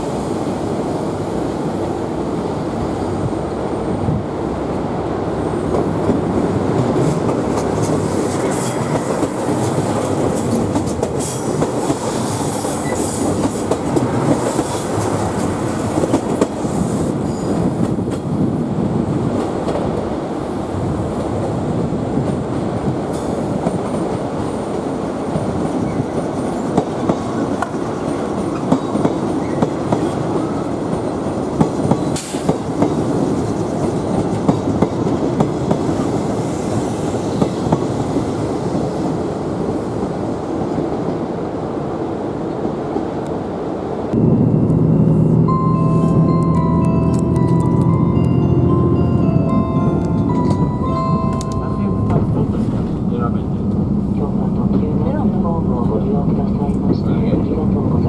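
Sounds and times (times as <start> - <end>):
diesel train rolling in: 0.0 - 58.0
train wheels rumbling: 0.0 - 58.0.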